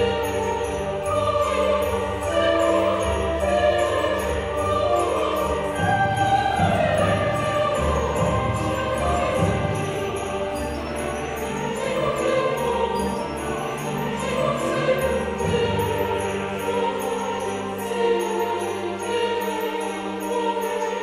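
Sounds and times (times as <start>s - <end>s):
choir-like voices: 0.0s - 21.0s
orchestral christmas music: 0.0s - 21.0s.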